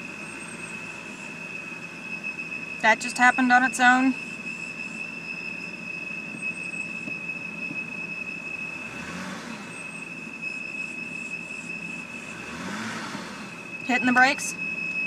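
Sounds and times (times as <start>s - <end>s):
car engine idling: 0.0s - 15.0s
high-pitched whistle: 0.0s - 15.0s.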